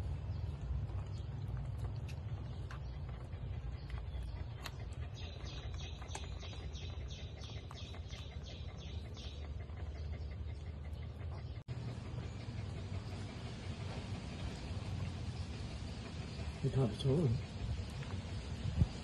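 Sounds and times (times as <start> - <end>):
bird chirping: 0.0 - 19.0
puppies suckling: 0.0 - 19.0
steady low rumble: 0.0 - 19.0.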